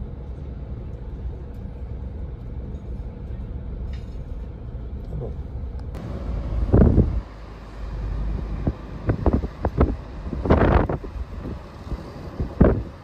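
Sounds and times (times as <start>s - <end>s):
car driving rumble: 0.0s - 13.0s
road noise: 0.0s - 13.0s.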